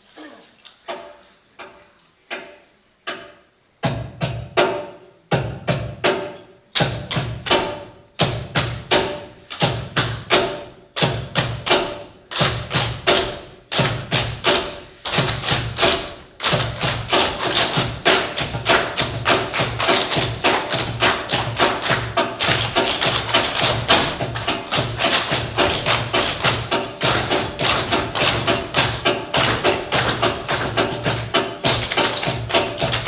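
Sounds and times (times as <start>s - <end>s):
cajon drumming: 3.8s - 33.0s.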